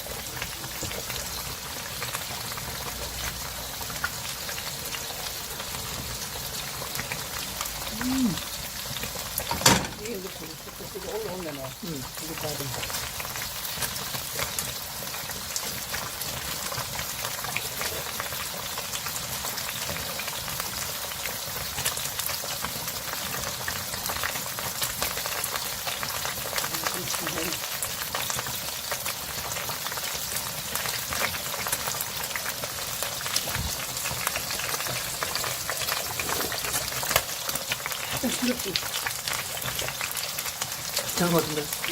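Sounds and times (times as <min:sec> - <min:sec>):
porridge bubbling in a pot: 0:00.0 - 0:41.9.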